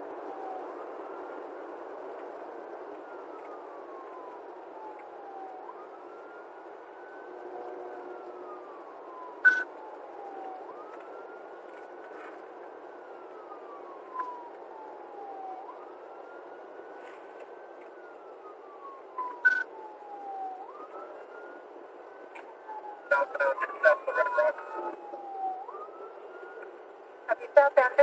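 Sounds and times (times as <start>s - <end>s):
police siren wailing: 0.0s - 28.0s
road noise: 0.0s - 28.0s.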